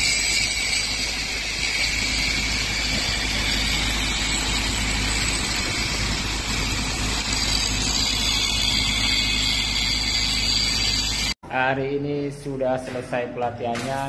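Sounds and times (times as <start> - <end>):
angle grinders cutting steel: 0.0 - 11.4.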